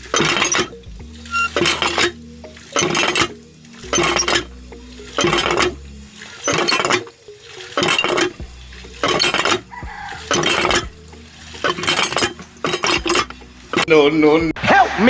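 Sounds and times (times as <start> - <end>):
hand pump clanking: 0.0 - 14.4.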